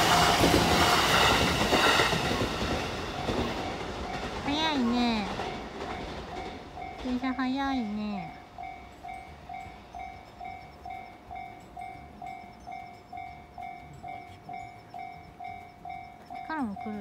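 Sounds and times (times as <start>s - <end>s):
level-crossing alarm bell ringing: 0.0s - 17.0s.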